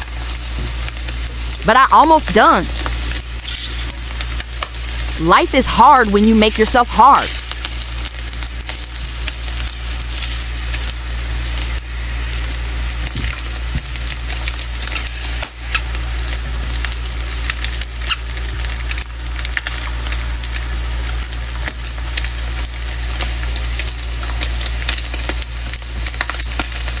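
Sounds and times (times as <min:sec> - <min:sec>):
meat sizzling in oil: 0:00.0 - 0:01.6, 0:02.6 - 0:05.2, 0:07.2 - 0:27.0.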